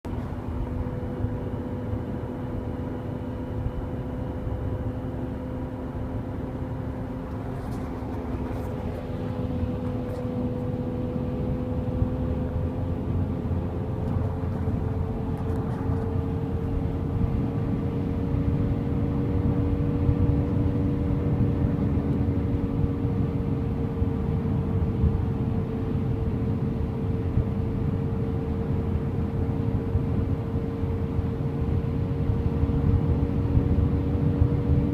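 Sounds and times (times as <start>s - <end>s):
road rumble: 0.0s - 34.9s
droning hum: 0.1s - 34.9s.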